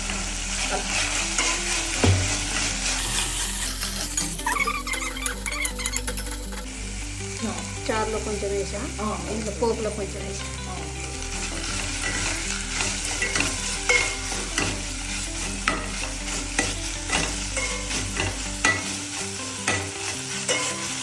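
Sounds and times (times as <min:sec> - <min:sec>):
spoon scraping a pan: 0:00.0 - 0:08.5, 0:09.2 - 0:21.0
spices sizzling in hot oil: 0:00.0 - 0:21.0.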